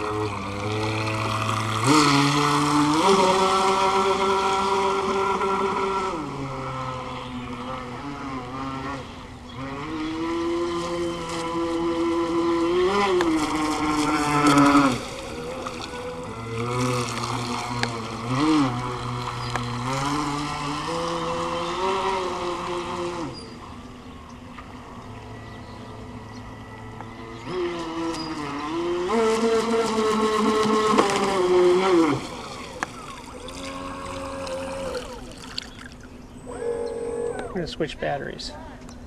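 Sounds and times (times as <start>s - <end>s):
electric motor whining: 0.0s - 37.7s.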